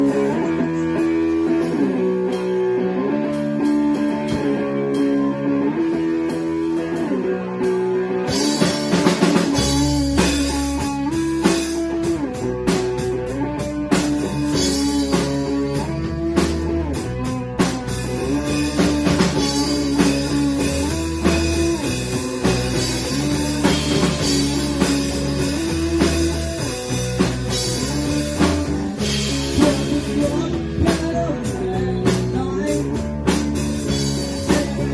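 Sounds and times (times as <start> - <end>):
guitar figure: 0.0 - 34.9
low bass line: 0.0 - 34.9
rock band playing: 0.0 - 34.9
drums with cymbals: 6.2 - 34.9.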